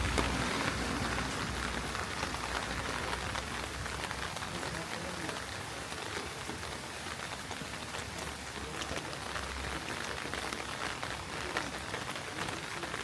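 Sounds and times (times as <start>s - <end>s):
heavy rain on street: 0.0s - 13.0s.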